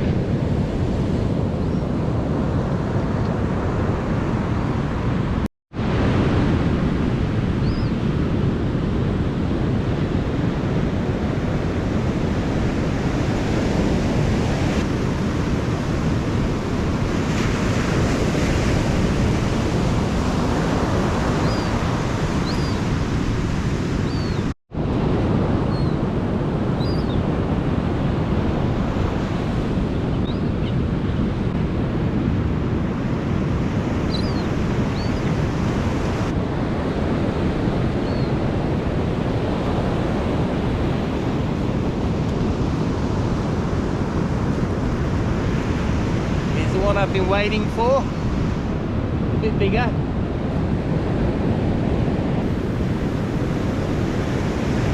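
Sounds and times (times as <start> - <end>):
ocean surf breaking on beach: 0.0 - 54.9
wind buffeting microphone: 0.0 - 54.9.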